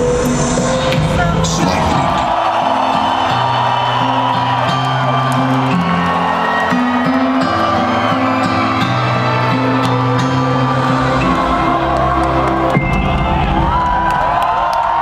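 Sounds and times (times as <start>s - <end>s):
loud electronic dance music: 0.0s - 14.0s.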